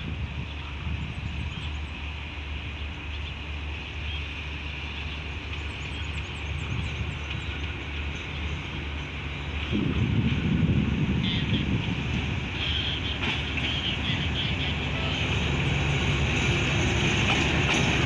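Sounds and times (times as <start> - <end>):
diesel locomotive engine idling: 0.0 - 18.0.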